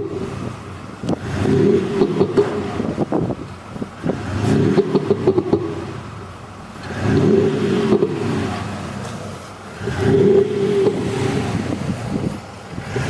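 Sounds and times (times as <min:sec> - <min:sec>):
car engine revving: 0:00.0 - 0:13.0
exhaust pops crackling: 0:00.0 - 0:13.0.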